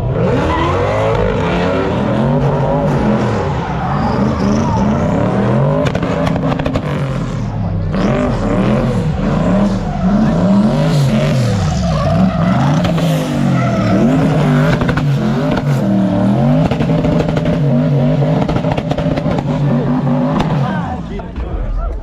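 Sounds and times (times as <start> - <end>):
car engine revving hard: 0.0 - 21.1.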